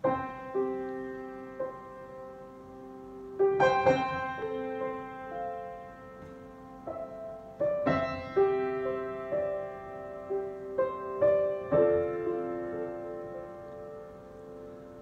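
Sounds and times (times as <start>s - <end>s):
slow piano hymn: 0.0s - 15.0s.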